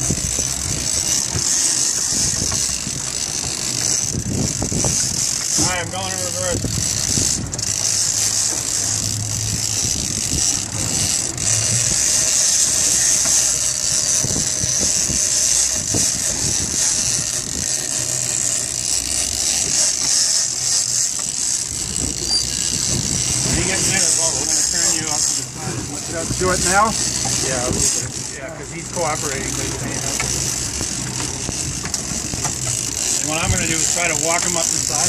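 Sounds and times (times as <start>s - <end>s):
boat engine running: 0.0s - 35.0s
fishing reel ratcheting: 0.0s - 35.0s
wind and water rushing: 0.0s - 35.0s.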